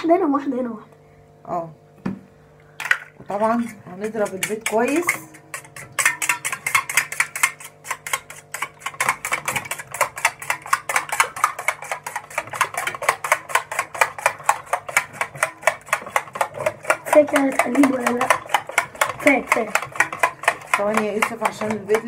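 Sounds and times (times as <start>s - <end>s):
whisk clicking in metal bowl: 3.4s - 22.0s.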